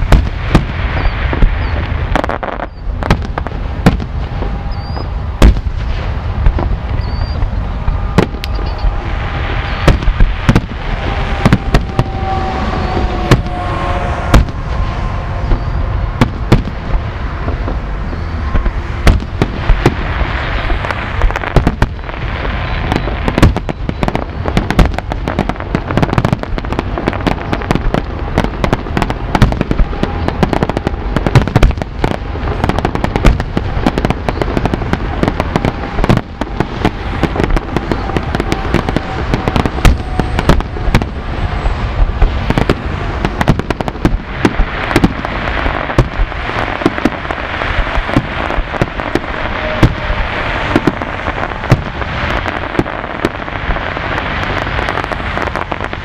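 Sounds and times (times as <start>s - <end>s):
fireworks bangs and crackle: 0.0s - 56.0s.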